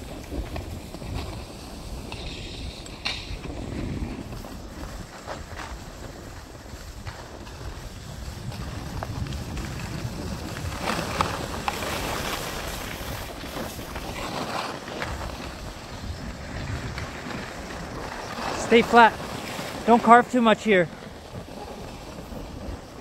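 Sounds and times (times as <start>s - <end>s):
edges scraping over packed snow: 0.0s - 23.0s
wind buffeting microphone: 0.0s - 23.0s.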